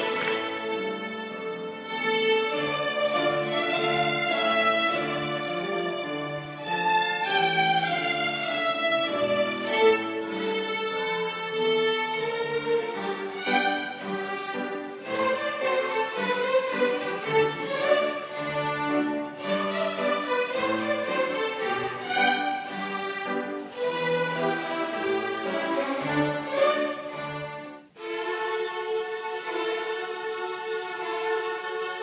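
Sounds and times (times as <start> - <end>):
children's violins playing: 0.0 - 32.0.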